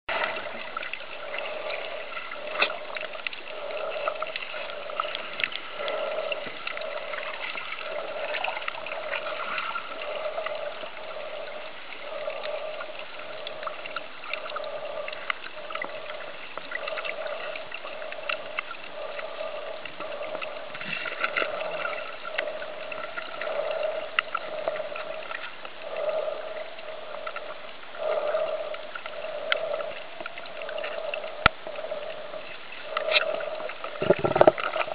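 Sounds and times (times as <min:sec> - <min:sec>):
sharp underwater clicks: 0:00.1 - 0:34.9
underwater hiss: 0:00.2 - 0:34.9.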